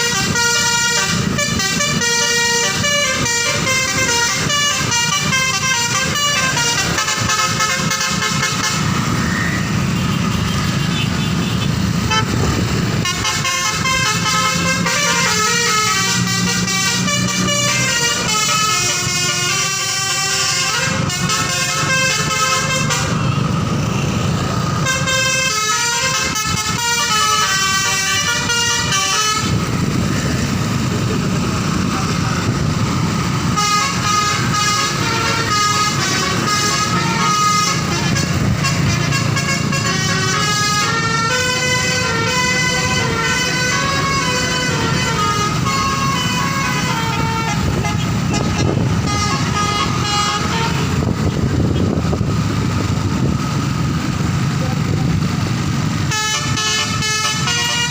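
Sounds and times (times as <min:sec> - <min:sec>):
multi-tone bus horn melody: 0:00.0 - 0:53.6, 0:54.8 - 0:57.9
bus engine rumble: 0:00.0 - 0:57.9.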